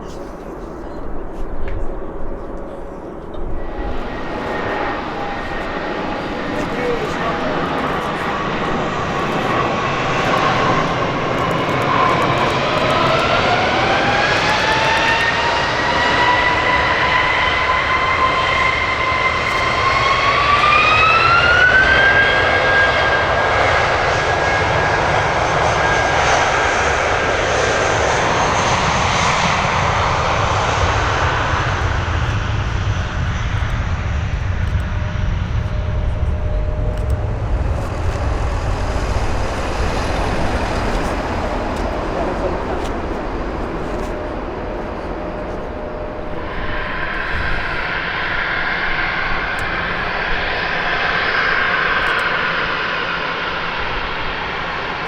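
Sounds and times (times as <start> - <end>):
deep engine rumble: 0.0 - 55.0
jet engines whining: 0.0 - 55.0.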